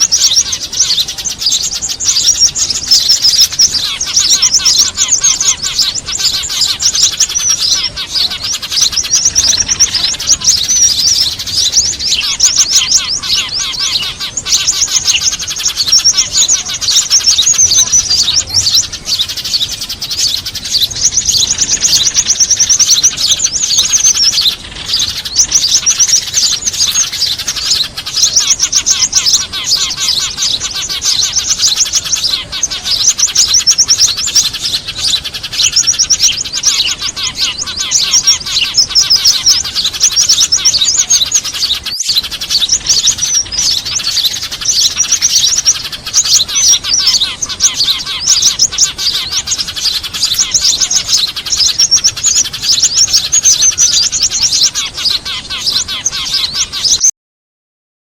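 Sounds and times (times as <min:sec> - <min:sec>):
small birds chirping: 0:00.0 - 0:57.1.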